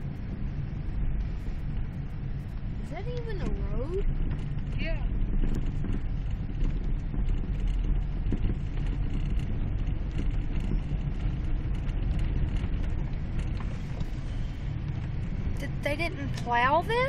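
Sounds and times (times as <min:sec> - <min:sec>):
vehicle engine rumble inside cabin: 0:00.0 - 0:17.0.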